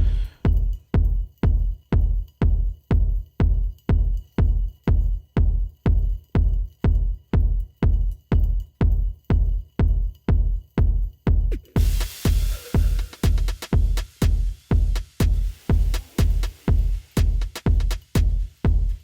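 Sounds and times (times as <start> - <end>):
electronic music with heavy bass beat: 0.0 - 19.0.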